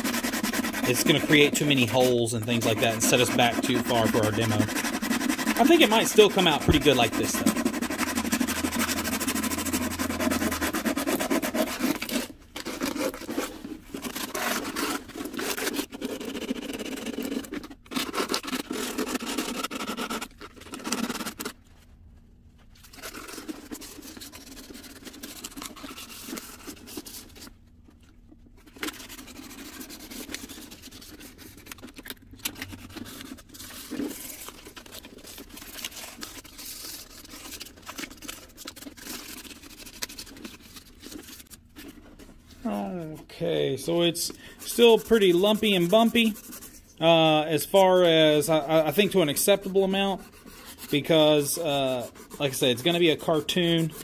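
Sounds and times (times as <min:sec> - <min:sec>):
sandpaper rubbing on paper: 0:00.0 - 0:21.5, 0:22.9 - 0:27.5, 0:28.7 - 0:42.8, 0:43.8 - 0:54.0.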